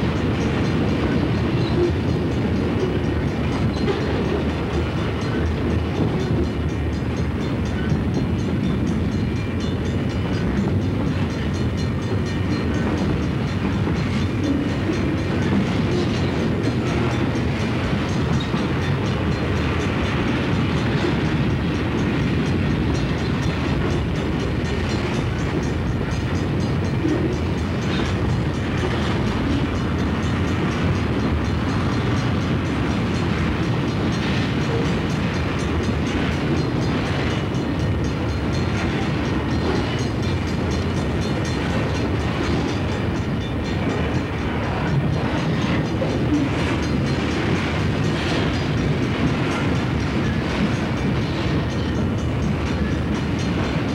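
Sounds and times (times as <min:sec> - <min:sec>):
steel wheels rumbling on rails: 0:00.0 - 0:53.9.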